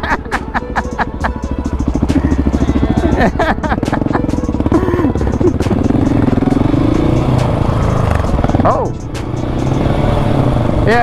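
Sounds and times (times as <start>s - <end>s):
small motorcycle engine: 0.0s - 11.0s.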